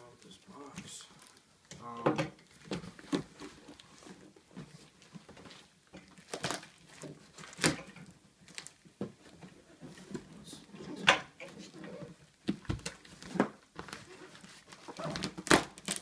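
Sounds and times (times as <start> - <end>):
plastic film rustling: 0.1 - 16.0.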